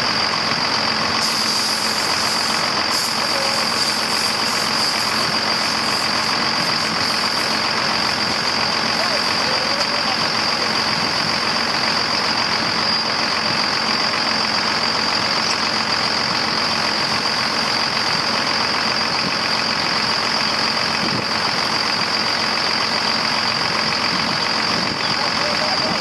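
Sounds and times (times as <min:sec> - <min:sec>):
water rushing from hydrant: 0:00.0 - 0:26.0.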